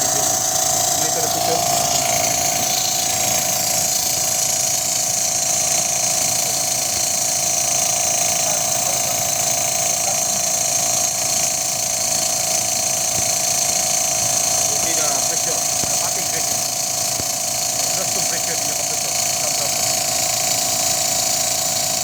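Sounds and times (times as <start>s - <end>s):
machinery whine: 0.0s - 19.9s.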